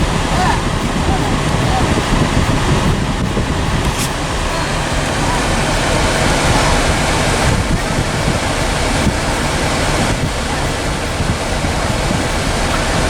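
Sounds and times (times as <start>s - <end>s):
rushing wind and road noise: 0.0s - 13.0s
wind buffeting microphone: 0.0s - 13.0s.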